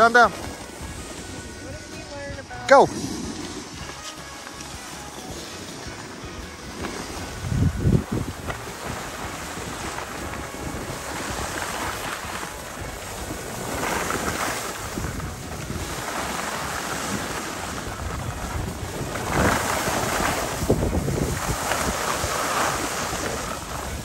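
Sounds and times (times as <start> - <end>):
skis scraping on snow: 0.0 - 24.0
wind rushing over microphone: 0.0 - 24.0.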